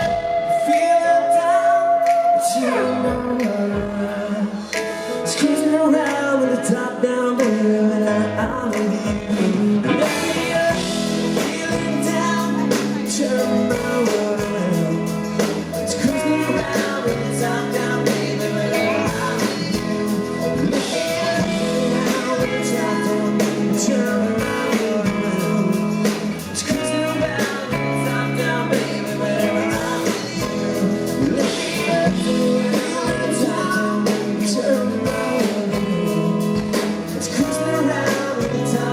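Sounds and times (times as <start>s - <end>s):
country rock band playing: 0.0s - 38.9s
person singing: 0.0s - 38.9s.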